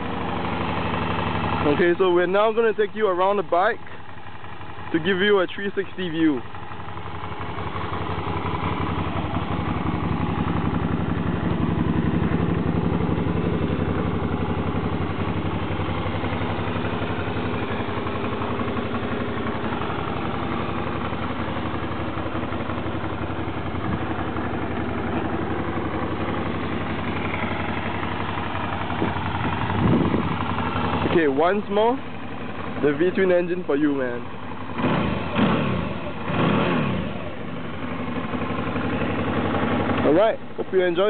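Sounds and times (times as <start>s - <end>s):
motorcycle engine idling: 0.0s - 41.0s.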